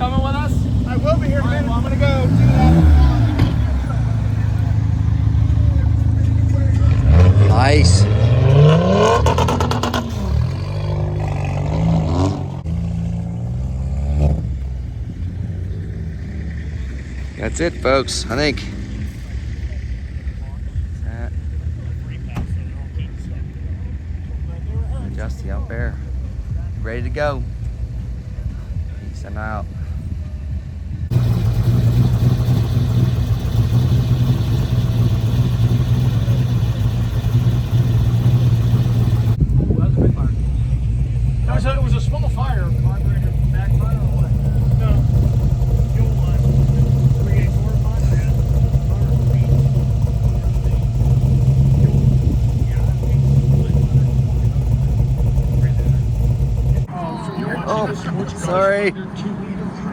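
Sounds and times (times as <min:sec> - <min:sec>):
car engine revving: 0:00.0 - 0:28.7, 0:30.9 - 0:59.9
road and wind noise: 0:00.0 - 0:59.9.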